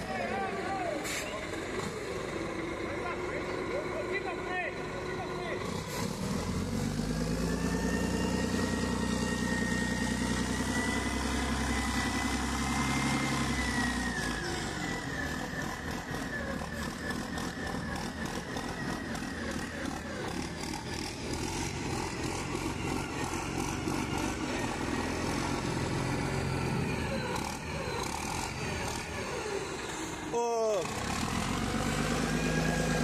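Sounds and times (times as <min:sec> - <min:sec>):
large diesel engine running: 0:00.0 - 0:33.0.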